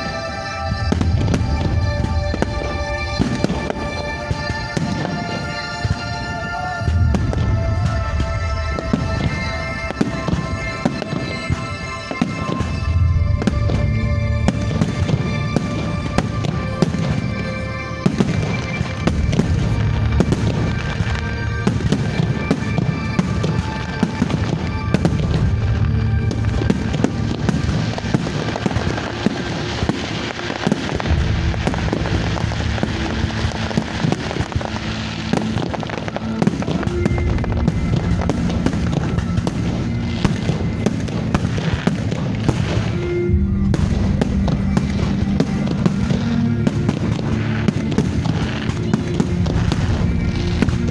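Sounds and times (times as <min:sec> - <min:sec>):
fireworks bangs and crackling: 0:00.0 - 0:50.9
loud music: 0:00.0 - 0:50.9.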